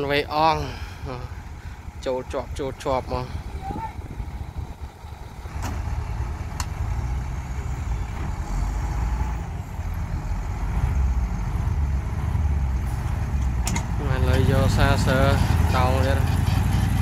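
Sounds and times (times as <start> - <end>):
heavy diesel engines rumbling: 0.0 - 17.0.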